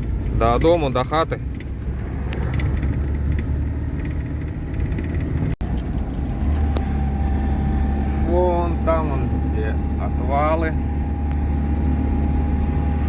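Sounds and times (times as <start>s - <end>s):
faint rattles: 0.0s - 13.0s
van engine and road drone: 0.0s - 13.0s.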